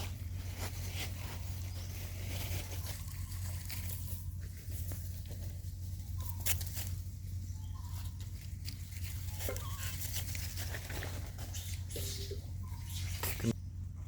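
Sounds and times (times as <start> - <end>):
rustling: 0.0 - 13.6
steady low hum: 0.0 - 14.0.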